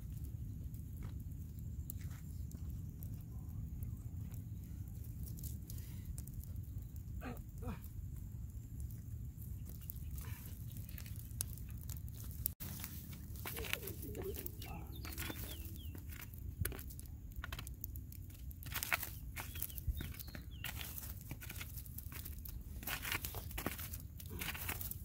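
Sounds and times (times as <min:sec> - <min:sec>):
campfire crackling: 0:00.0 - 0:25.0
wind rumble on microphone: 0:00.0 - 0:25.0.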